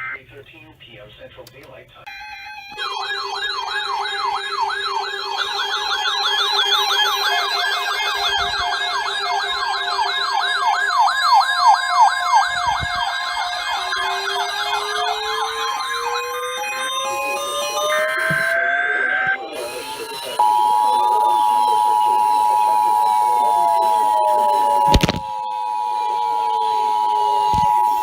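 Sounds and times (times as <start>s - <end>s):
electronic siren yelping: 2.1s - 28.0s.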